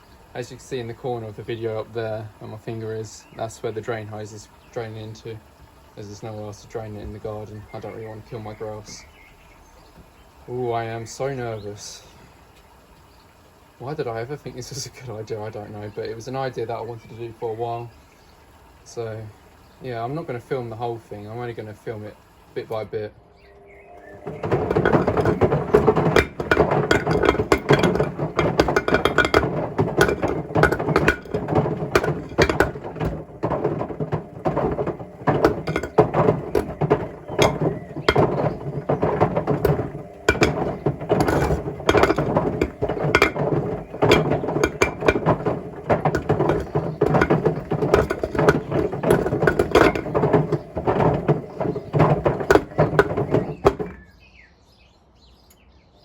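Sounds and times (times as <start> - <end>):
bricks clattering in washing machine drum: 0.3 - 9.2, 13.6 - 22.8, 24.0 - 54.1.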